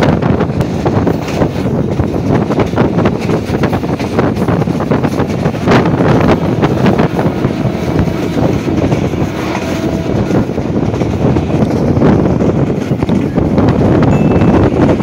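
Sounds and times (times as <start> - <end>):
train wheels rumbling on rails: 0.0 - 15.0
wind buffeting microphone: 0.0 - 15.0
rattles and clacks: 0.2 - 15.0.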